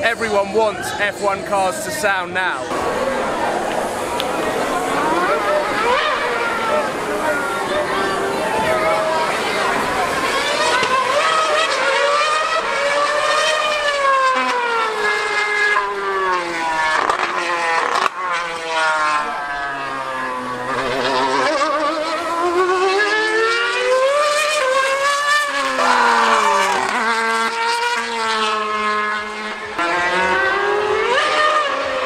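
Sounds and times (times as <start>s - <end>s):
racing car engine screaming: 0.0s - 32.0s.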